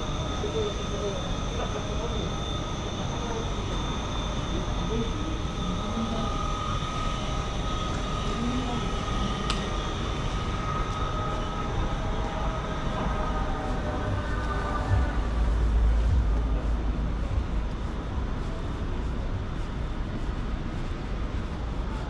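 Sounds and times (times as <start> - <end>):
high whine: 0.0 - 22.0
subway train rumbling: 0.0 - 22.0.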